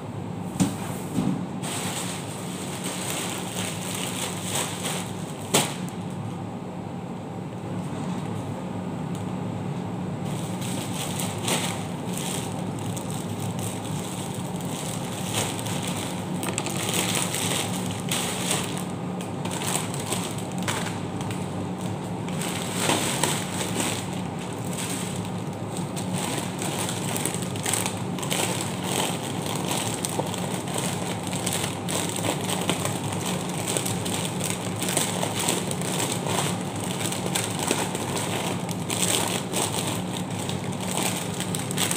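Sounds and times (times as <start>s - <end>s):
plastic packets crinkling: 1.6s - 5.9s, 10.3s - 41.9s.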